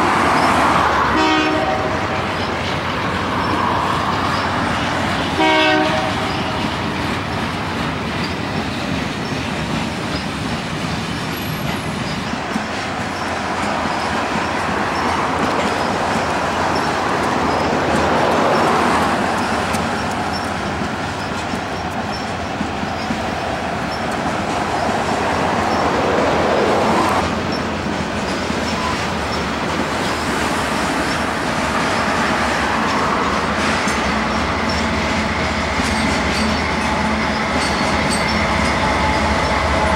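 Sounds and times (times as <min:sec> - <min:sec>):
diesel locomotives passing: 0:00.0 - 0:39.9
freight train rolling past: 0:00.0 - 0:39.9
steel wheels clattering on rail: 0:00.0 - 0:39.9.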